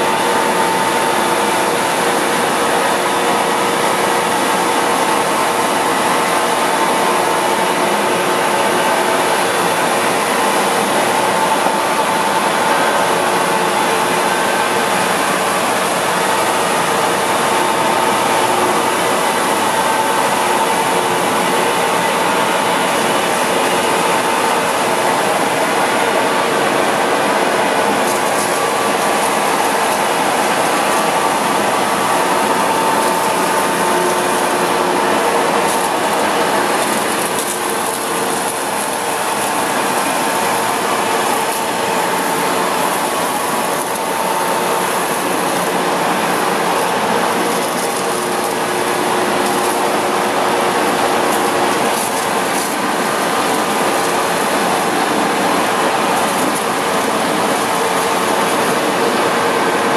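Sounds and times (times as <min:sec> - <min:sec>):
coolant splashing: 0:00.0 - 0:59.9
surface grinder running: 0:00.0 - 0:59.9.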